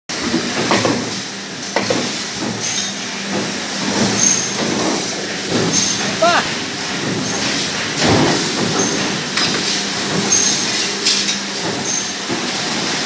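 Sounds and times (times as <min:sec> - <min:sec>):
machine hum: 0:02.3 - 0:13.0.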